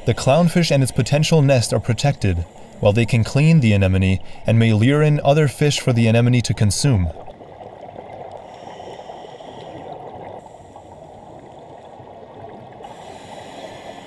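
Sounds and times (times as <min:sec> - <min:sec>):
muffled underwater hiss: 0:00.0 - 0:05.8, 0:08.2 - 0:14.0.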